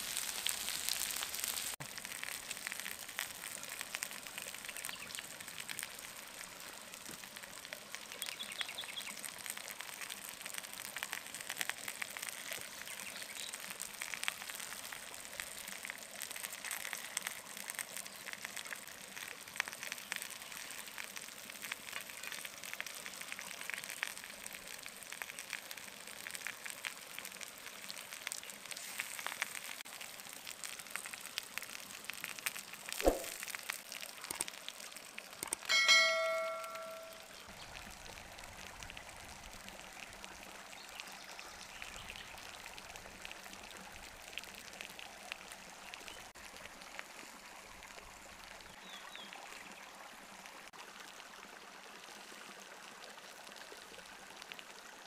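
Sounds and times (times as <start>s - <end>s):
meat sizzling on hot stone: 0.0s - 46.3s.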